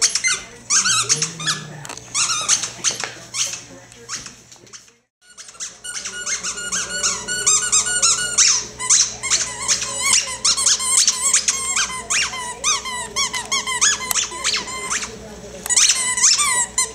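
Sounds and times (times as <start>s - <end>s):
squeaky toy squeaking: 0.0s - 4.3s, 5.2s - 15.1s, 15.7s - 16.9s.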